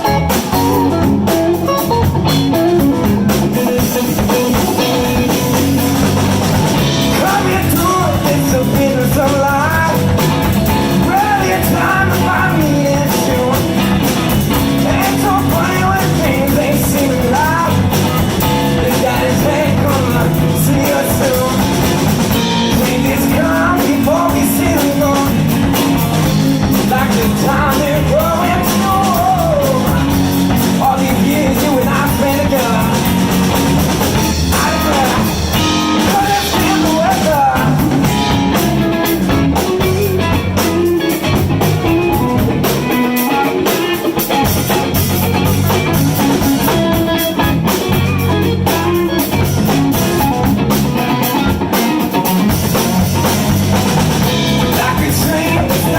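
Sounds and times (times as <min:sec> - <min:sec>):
blues band playing live: 0:00.0 - 0:55.9.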